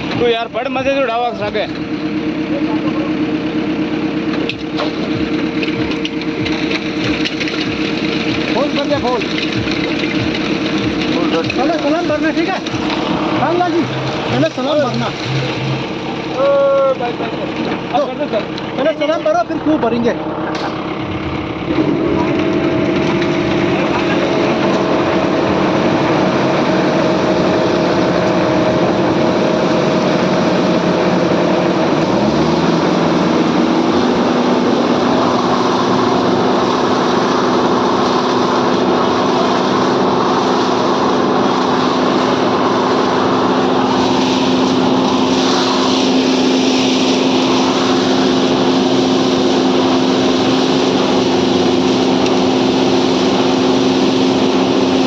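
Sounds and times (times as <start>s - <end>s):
small engine running: 0.8s - 55.0s.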